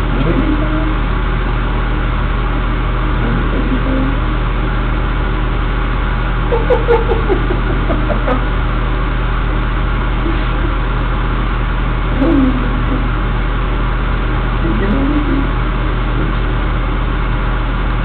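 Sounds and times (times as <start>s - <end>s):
mechanical hum of spinning: 0.0s - 18.0s.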